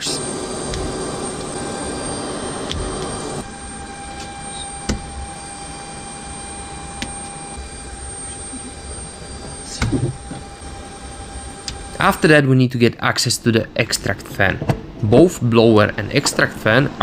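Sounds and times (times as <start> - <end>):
electrical hum of equipment and fans: 0.0 - 17.0.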